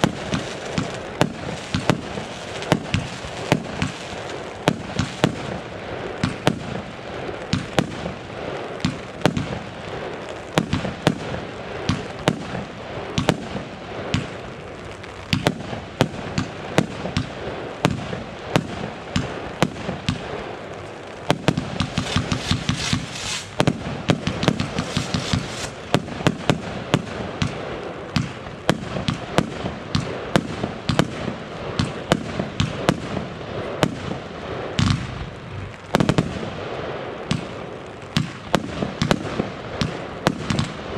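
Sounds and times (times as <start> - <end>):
fireworks banging and crackling: 0.0 - 40.9.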